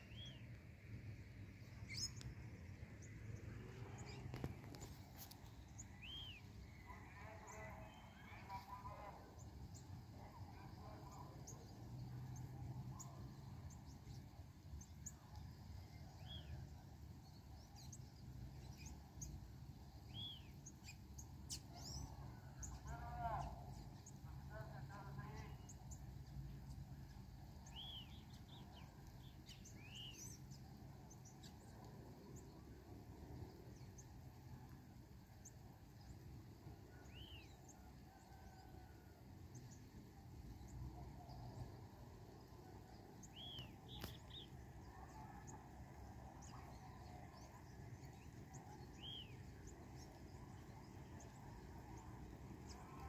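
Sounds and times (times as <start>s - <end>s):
bird chirping: 0.0s - 0.6s, 1.5s - 32.7s, 35.3s - 53.0s.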